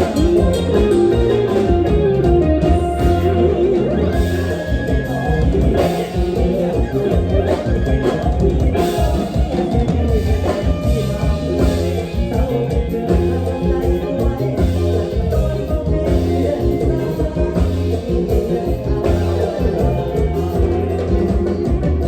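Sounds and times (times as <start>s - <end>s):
live band playing upbeat music: 0.0s - 22.0s
prominent bass line: 0.0s - 22.0s.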